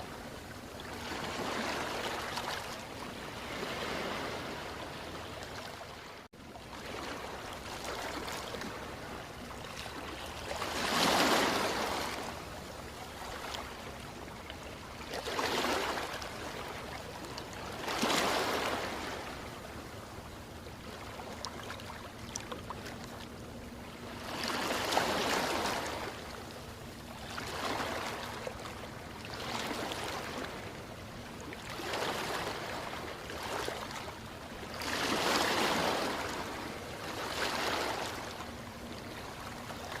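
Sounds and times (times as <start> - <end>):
ocean waves washing in: 0.0 - 40.0.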